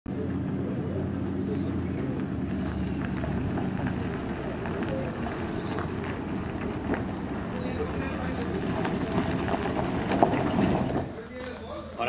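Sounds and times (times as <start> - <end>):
vehicle engine running: 0.1 - 12.0.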